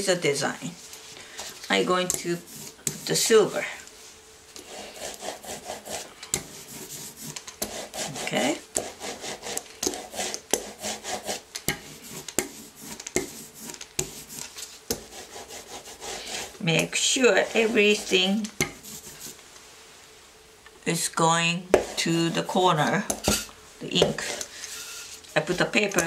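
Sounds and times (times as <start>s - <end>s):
ink roller rasping over foam plate: 1.4s - 19.4s, 21.7s - 22.4s, 23.1s - 26.0s.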